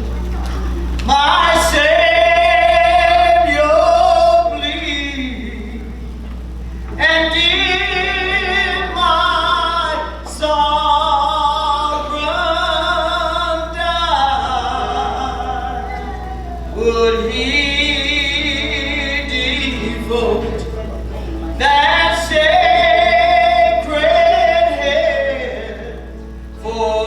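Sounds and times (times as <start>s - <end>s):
singers singing a slow hymn: 0.0s - 27.0s.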